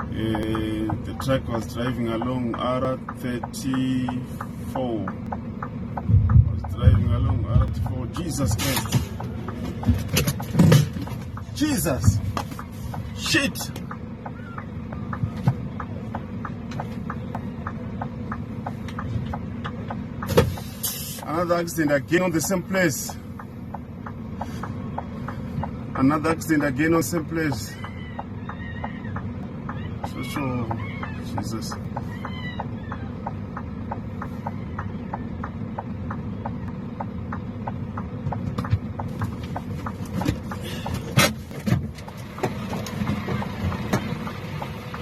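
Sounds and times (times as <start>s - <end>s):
light regular ticking: 0.0s - 45.0s
low vehicle rumble: 0.0s - 45.0s.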